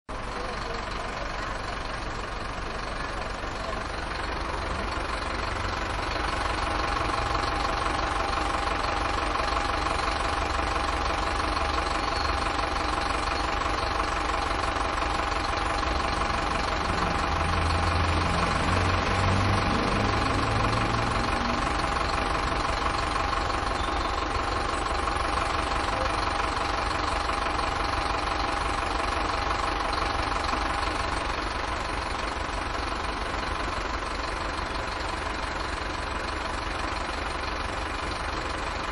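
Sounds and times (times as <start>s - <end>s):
bus engine idling: 0.1s - 38.9s.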